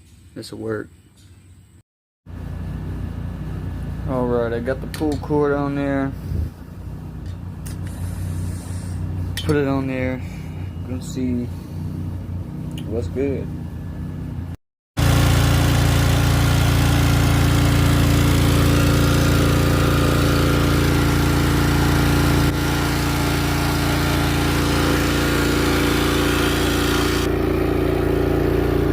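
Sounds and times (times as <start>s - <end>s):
pressure washer engine running: 2.3s - 14.3s, 15.0s - 28.9s.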